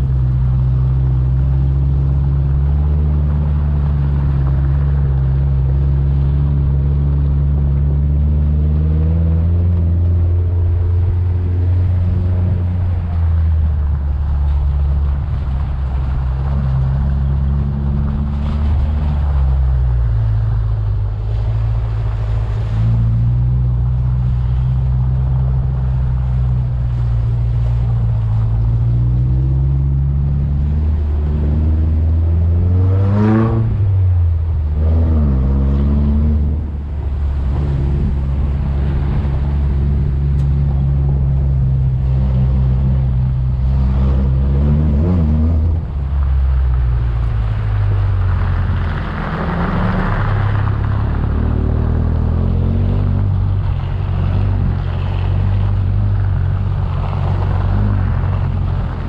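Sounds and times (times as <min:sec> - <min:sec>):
off-road vehicle engine revving: 0:00.0 - 0:59.0
rush of noise: 0:00.0 - 0:59.0.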